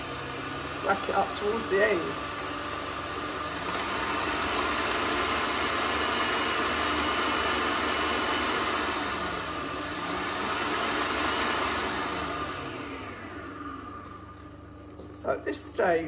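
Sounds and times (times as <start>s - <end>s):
electric mixer running: 0.0s - 16.0s.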